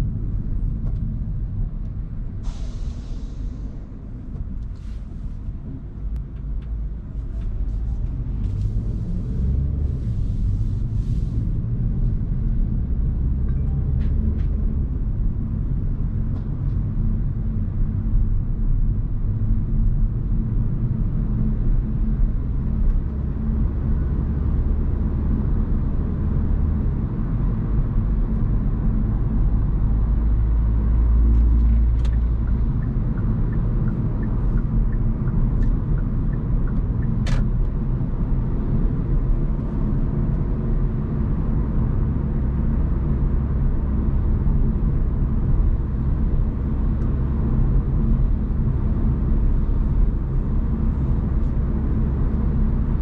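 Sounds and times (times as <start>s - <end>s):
road and tyre rumble: 0.0s - 53.0s.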